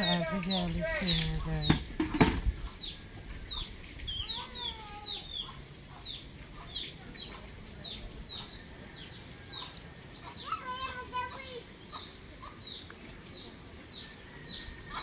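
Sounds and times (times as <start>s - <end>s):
chickens calling: 0.0s - 15.0s
chickens clucking: 0.0s - 15.0s.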